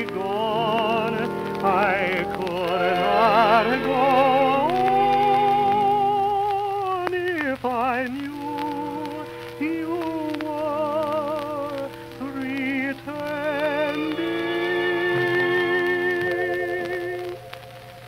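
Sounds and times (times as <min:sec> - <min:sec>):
disc surface crackle: 0:00.0 - 0:18.0
old song recording with vibrato: 0:00.0 - 0:18.0.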